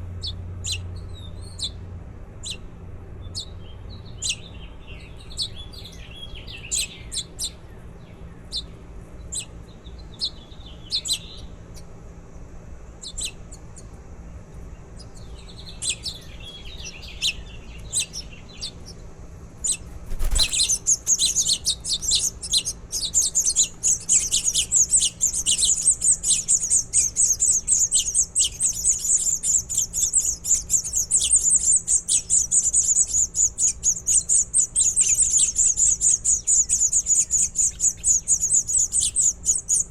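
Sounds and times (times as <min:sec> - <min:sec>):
baby birds chirping: 0:00.2 - 0:01.8, 0:02.4 - 0:02.7, 0:03.3 - 0:12.0, 0:13.0 - 0:14.0, 0:14.8 - 0:39.9.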